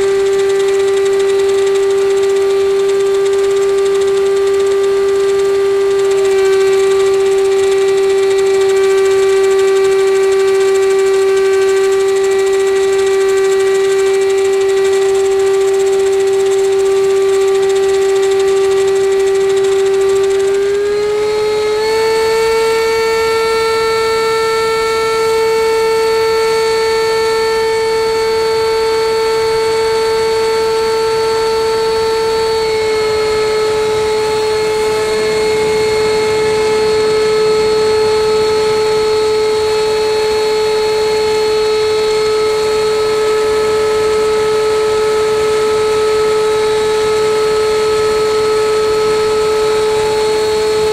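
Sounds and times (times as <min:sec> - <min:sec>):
model jet fan whining: 0:00.0 - 0:50.9.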